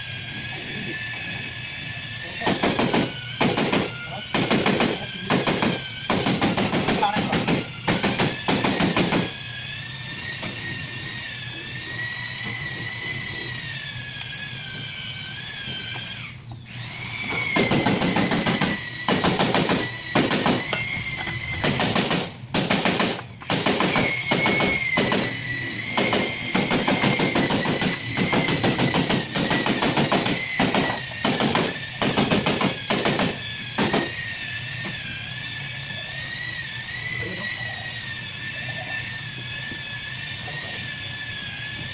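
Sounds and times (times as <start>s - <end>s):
machine whining: 0.0s - 41.9s.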